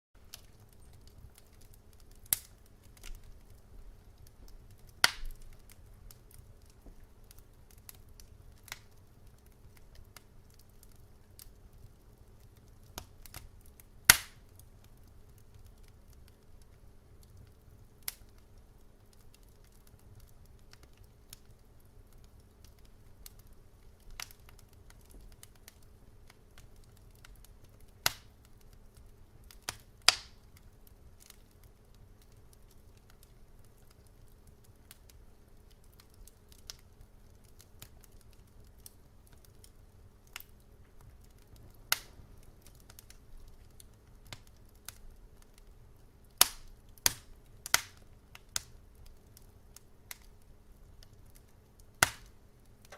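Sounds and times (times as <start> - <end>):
low steady fire rumble: 0.2 - 52.9
wood fire crackling and popping: 0.2 - 52.9.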